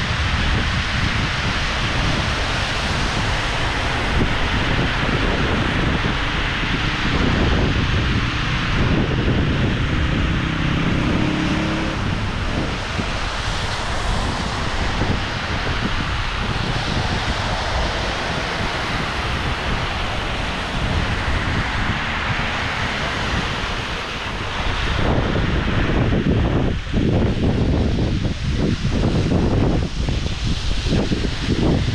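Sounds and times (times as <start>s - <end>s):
car tyres on wet road: 0.0s - 31.9s
low vehicle hum: 0.0s - 31.9s
rain hissing: 0.0s - 31.9s
wind buffeting microphone: 0.0s - 31.9s.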